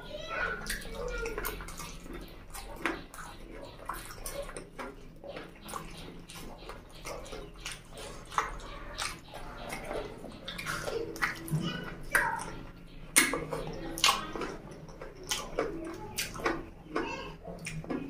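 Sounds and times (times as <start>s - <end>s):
wet mouth eating sounds: 0.0s - 18.0s.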